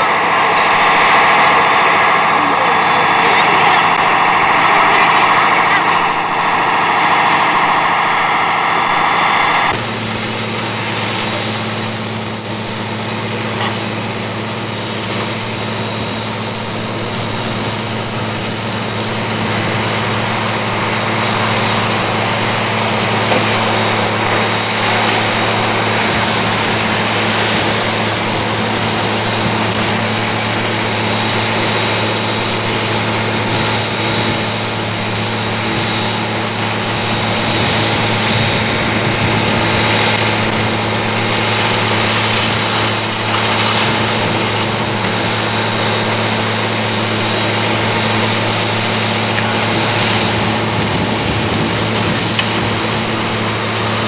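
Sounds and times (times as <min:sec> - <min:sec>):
engine idling drone: 0:00.0 - 0:54.0.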